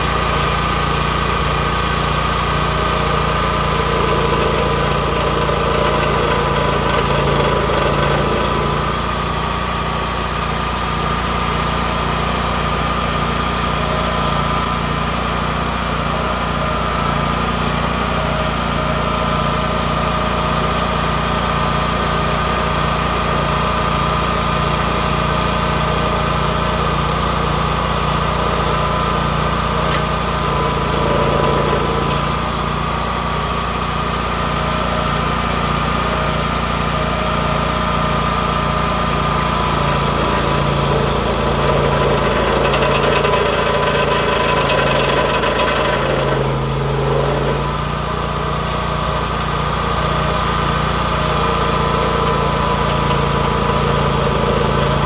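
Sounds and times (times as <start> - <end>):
stump grinder engine running: 0.0 - 55.0.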